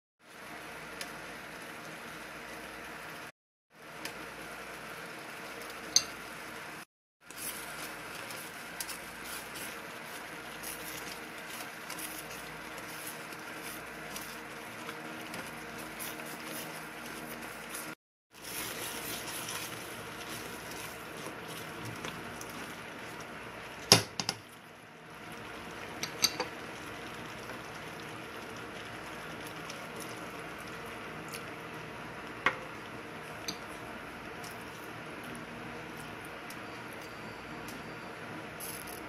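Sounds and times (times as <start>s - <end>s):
sauce bubbling in a pan: 0.2s - 37.6s.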